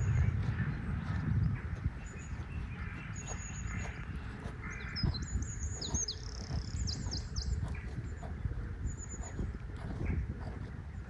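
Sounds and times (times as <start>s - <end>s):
low background rumble: 0.0s - 11.0s
small birds chirping: 0.0s - 11.0s.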